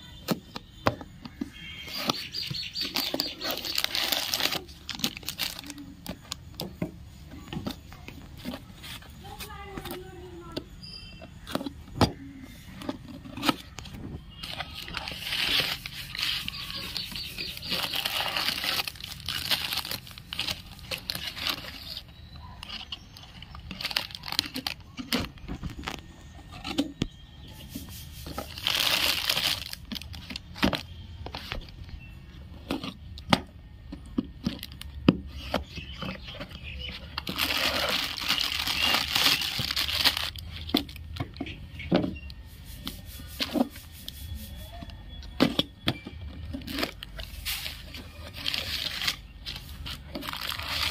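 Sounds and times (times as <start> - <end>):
plastic and cardboard crinkling: 0.0 - 50.9.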